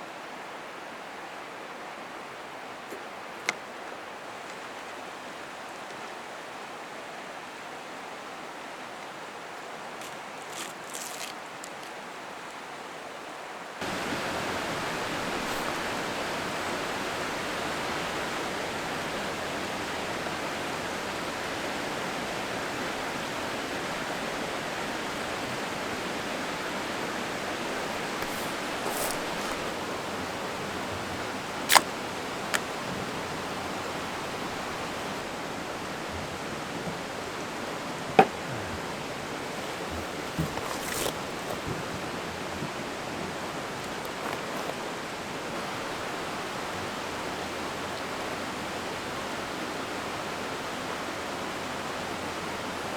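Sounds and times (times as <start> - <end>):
stream flowing: 0.0 - 52.9.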